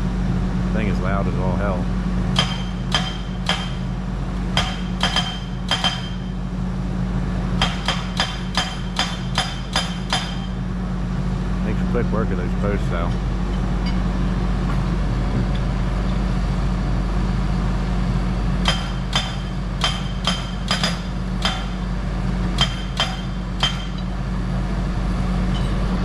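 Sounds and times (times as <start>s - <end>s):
loader engine running: 0.0s - 26.0s.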